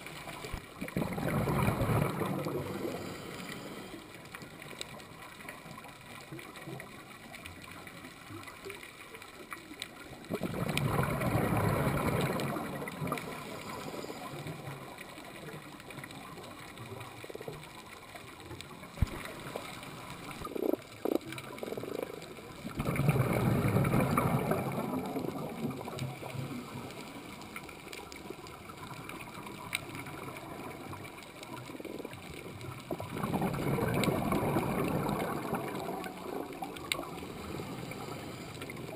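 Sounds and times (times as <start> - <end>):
faint clicks: 0.0 - 38.9
regulator bubbles underwater: 0.0 - 38.9.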